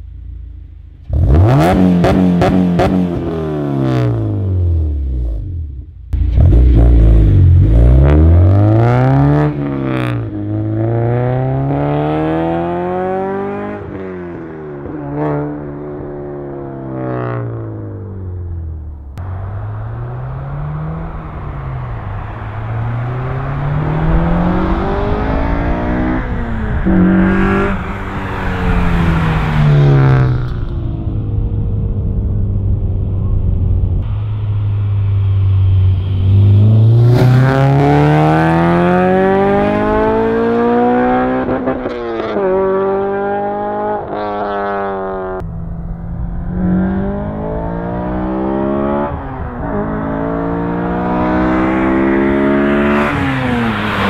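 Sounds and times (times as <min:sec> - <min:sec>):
car engine accelerating through gears: 0:01.0 - 0:05.5, 0:06.2 - 0:33.0, 0:35.3 - 0:54.0.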